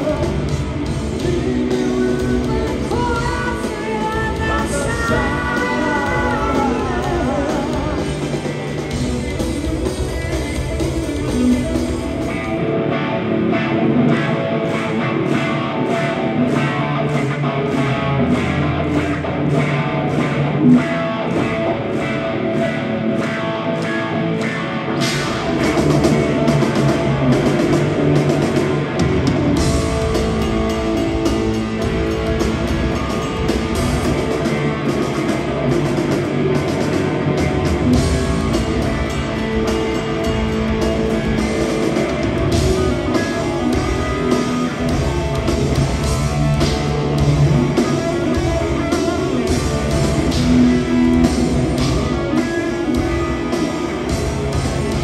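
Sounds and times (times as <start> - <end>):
electric guitar: 0.0 - 55.0
live rock band playing: 0.0 - 55.0.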